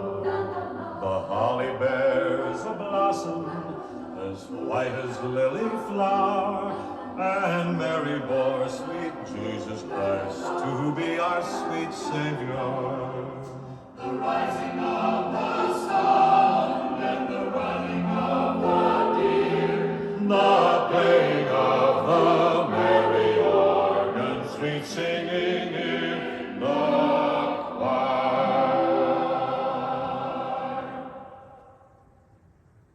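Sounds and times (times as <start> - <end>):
choir singing a carol: 0.0 - 31.9.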